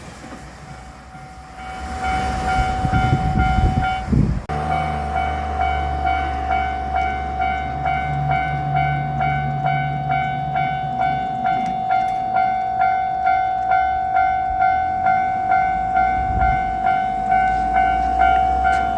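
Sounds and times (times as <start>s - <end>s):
train low rumble: 0.0s - 18.9s
level-crossing warning bell: 0.6s - 18.9s.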